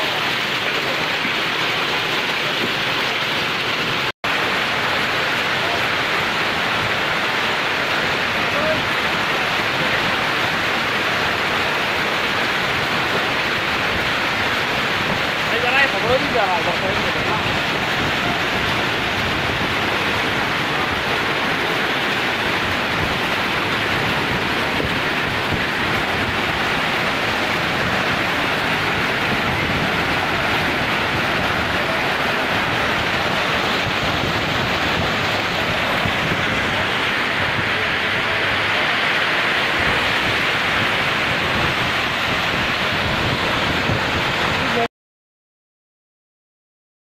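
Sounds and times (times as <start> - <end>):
heavy rain on road and awnings: 0.0 - 44.9
strong wind: 0.0 - 44.9.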